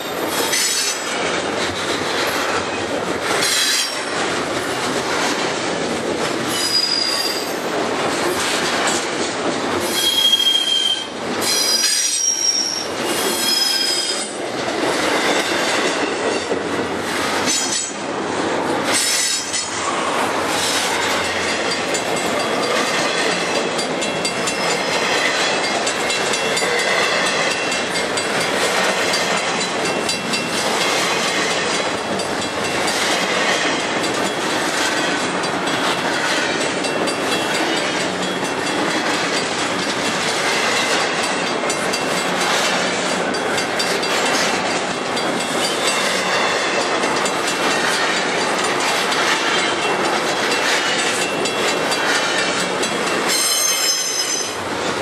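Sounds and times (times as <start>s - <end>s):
freight train wheels rumbling: 0.0s - 55.0s
wheels clicking over rail joints: 0.0s - 55.0s.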